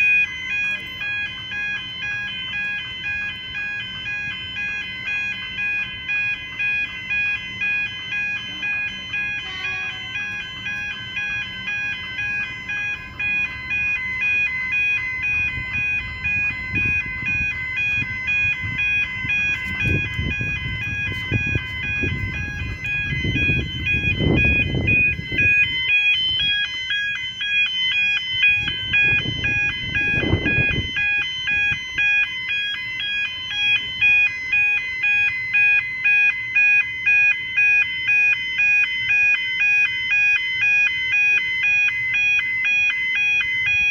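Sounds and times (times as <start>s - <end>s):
level crossing warning bells: 0.0s - 43.9s.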